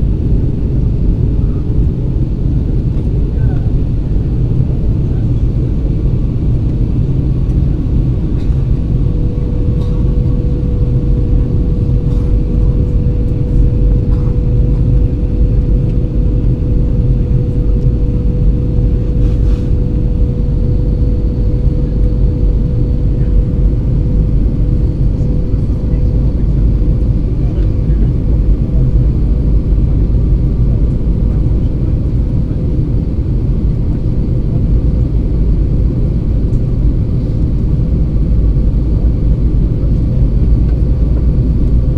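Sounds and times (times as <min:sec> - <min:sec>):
aircraft cabin engine rumble: 0:00.0 - 0:41.9
steady hum: 0:00.0 - 0:41.9.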